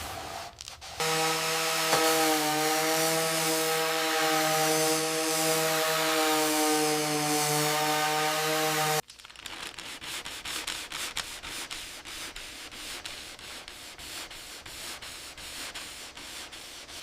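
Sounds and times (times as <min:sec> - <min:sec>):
hand sanding a surface: 0:00.0 - 0:17.0.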